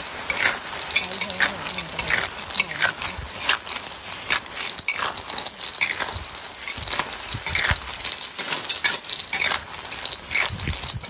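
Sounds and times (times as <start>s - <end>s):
light sizzle: 0.0s - 11.0s
snail shells rattling in a wok: 0.0s - 11.0s.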